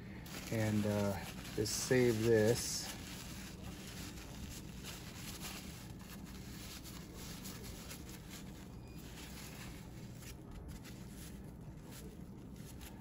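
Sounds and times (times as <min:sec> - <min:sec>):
paper towel rustling: 0:00.2 - 0:13.0.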